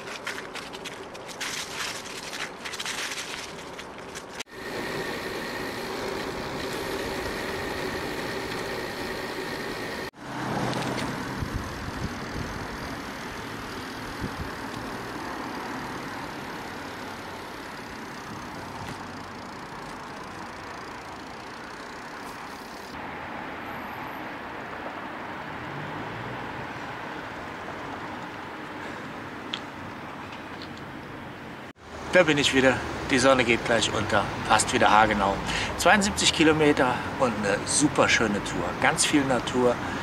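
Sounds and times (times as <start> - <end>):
wind and bicycle road noise: 0.0 - 40.0.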